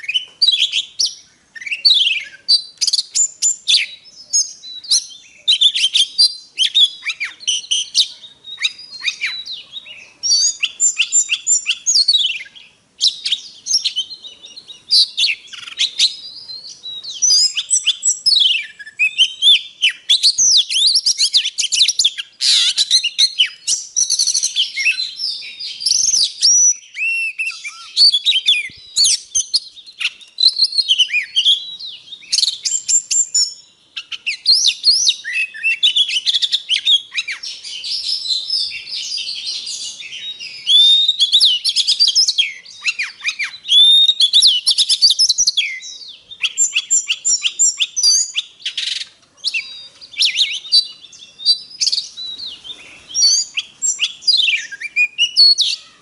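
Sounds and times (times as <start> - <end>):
bird singing varied whistles and trills: 0.0 - 56.0.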